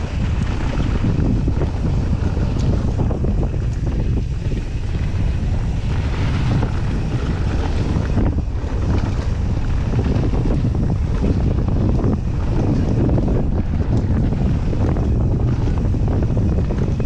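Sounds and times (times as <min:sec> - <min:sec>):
tyres rolling on dirt trail: 0:00.0 - 0:17.0
wind rushing over microphone: 0:00.0 - 0:17.0.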